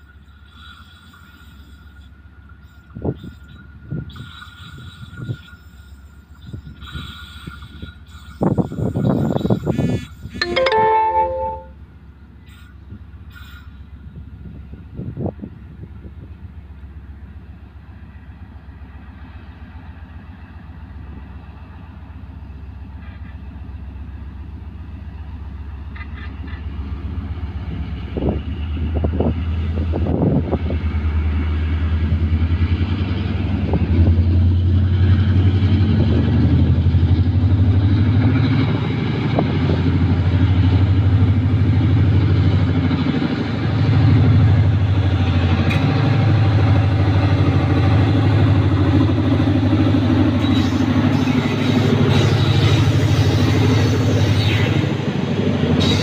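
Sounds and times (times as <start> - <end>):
locomotive engine droning: 0.0 - 56.0.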